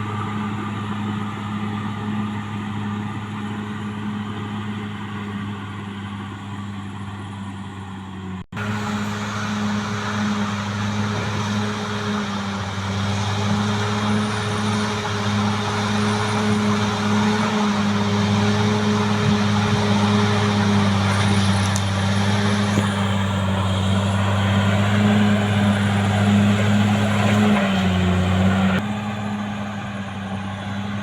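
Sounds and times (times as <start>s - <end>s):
bulldozer diesel engine droning: 0.0s - 31.0s.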